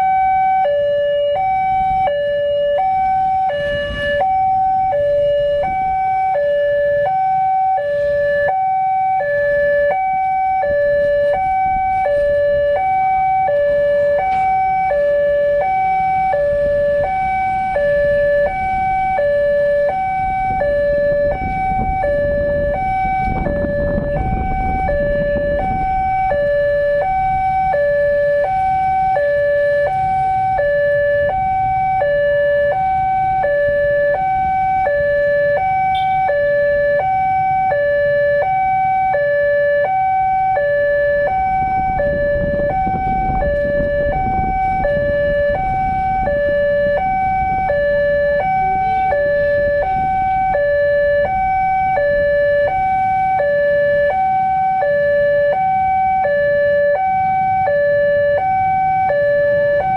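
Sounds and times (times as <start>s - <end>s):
road traffic rumble: 0.0s - 59.9s
two-tone level crossing alarm: 0.0s - 59.9s.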